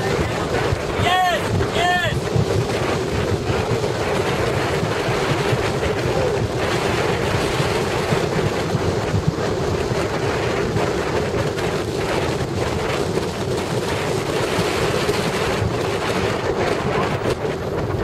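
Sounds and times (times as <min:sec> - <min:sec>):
car road and engine noise: 0:00.0 - 0:18.0
wind buffeting microphone: 0:00.0 - 0:18.0.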